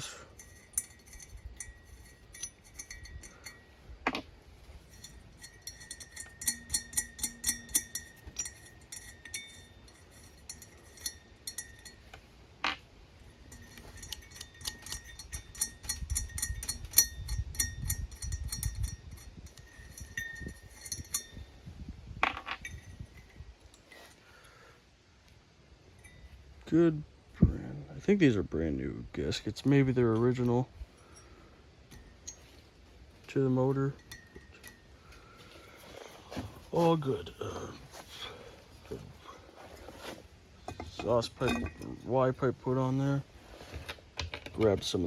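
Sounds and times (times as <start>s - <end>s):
small metal hardware clinking: 0.0s - 24.7s, 25.9s - 26.8s, 29.4s - 45.0s.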